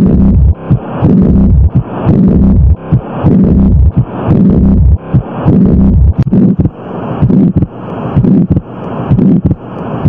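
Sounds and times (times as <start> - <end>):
heartbeat thumps: 0.0 - 9.6
hissing heart murmur: 0.0 - 9.7.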